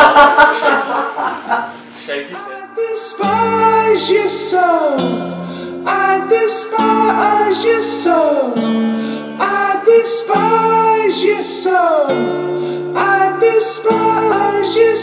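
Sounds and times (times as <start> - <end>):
song with guitar and singing: 0.0 - 15.0.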